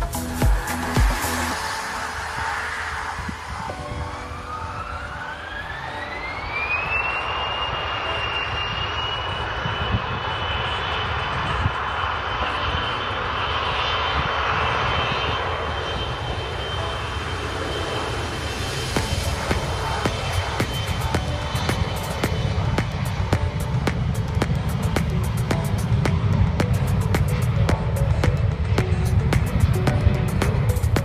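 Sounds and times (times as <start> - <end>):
jet engines spooling up: 0.0 - 31.0
wind rumbling on microphone: 0.0 - 31.0.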